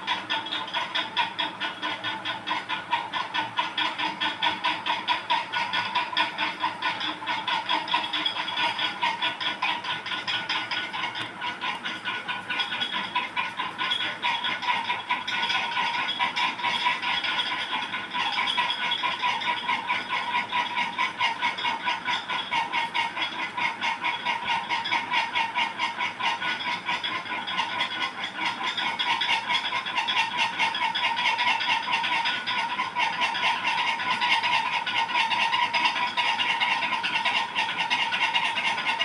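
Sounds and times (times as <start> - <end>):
ceiling fan squeaking: 0.0 - 39.0.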